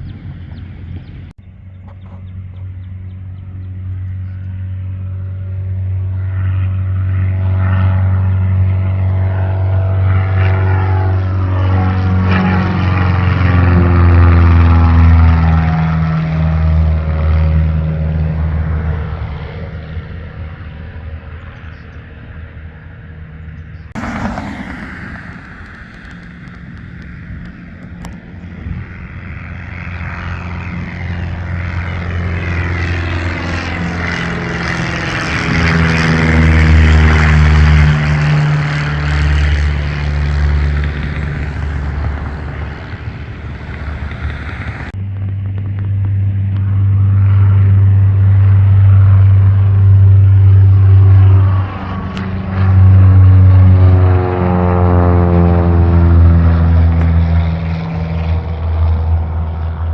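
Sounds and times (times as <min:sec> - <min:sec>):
propeller airplane engine: 0:00.0 - 0:59.9.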